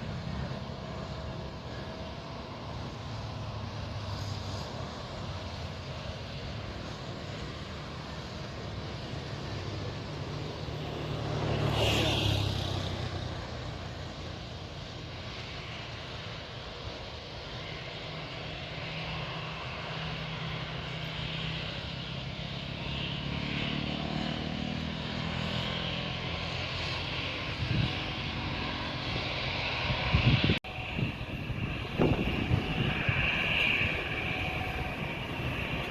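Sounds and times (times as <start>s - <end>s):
distant jet engines droning: 0.0s - 35.9s.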